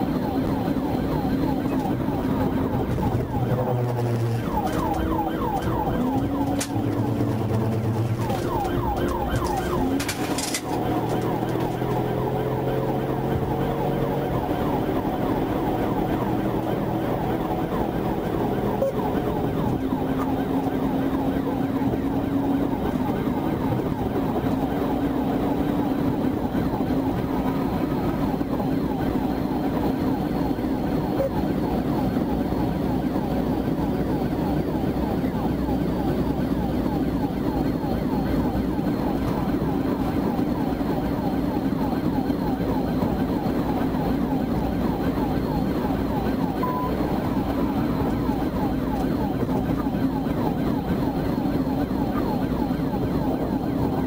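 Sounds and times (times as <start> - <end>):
engine and road noise: 0.0 - 54.0
police siren yelping: 0.0 - 54.0.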